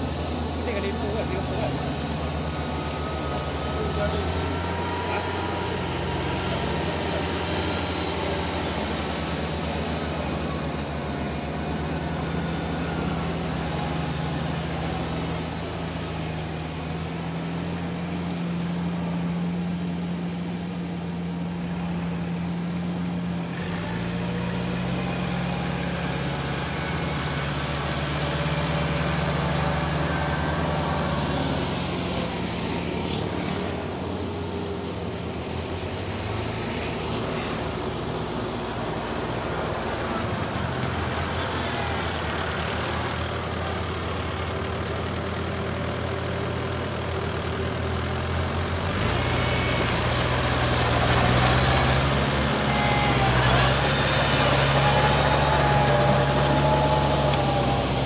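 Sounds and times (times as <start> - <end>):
diesel tractor engines running: 0.0 - 58.0.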